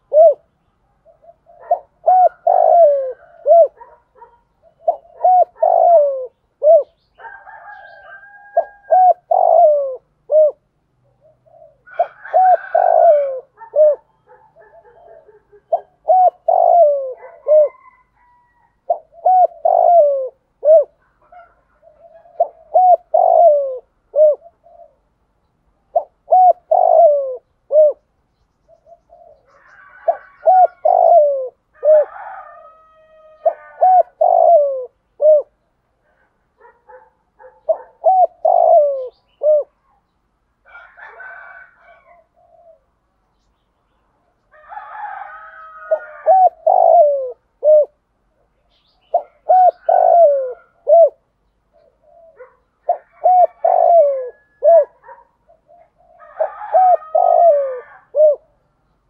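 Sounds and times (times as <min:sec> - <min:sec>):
dove cooing: 0:00.0 - 0:28.1, 0:28.7 - 0:40.1, 0:40.7 - 0:43.0, 0:44.4 - 0:58.6.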